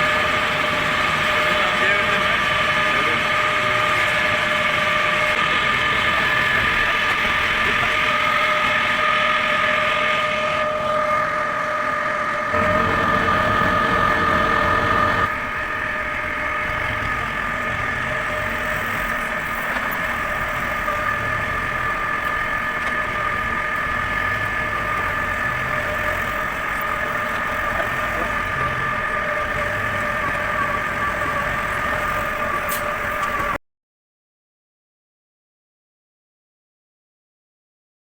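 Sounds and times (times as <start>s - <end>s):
electric motor whining: 0.0s - 33.6s.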